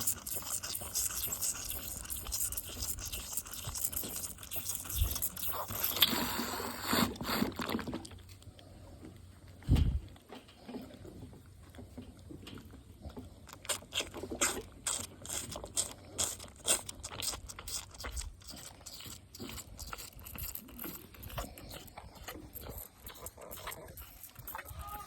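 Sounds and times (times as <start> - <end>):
calf sucking on bottle: 0.0 - 25.0.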